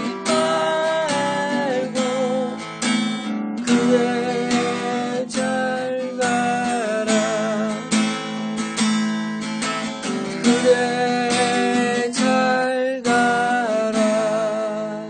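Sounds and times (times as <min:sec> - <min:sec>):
acoustic guitar ballad: 0:00.0 - 0:15.0.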